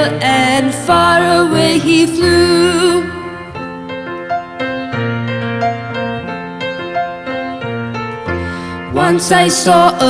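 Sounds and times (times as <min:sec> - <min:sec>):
sustained bass notes: 0:00.0 - 0:09.6
piano-like keyboard melody: 0:00.0 - 0:10.0.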